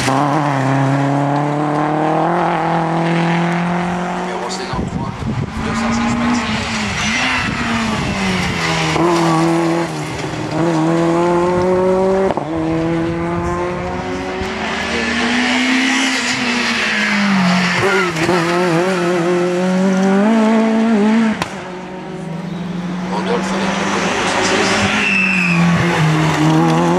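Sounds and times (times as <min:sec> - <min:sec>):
rally car engines accelerating: 0:00.0 - 0:26.9.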